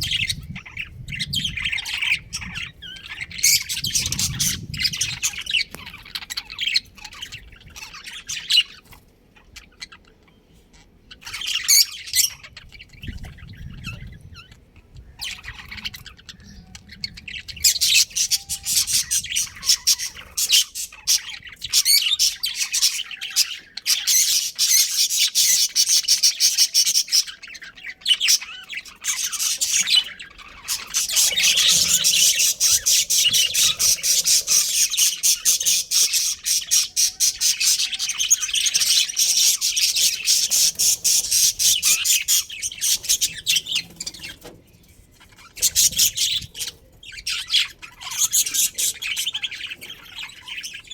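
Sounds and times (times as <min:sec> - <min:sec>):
budgerigars chirping and chattering: 0:00.0 - 0:50.9.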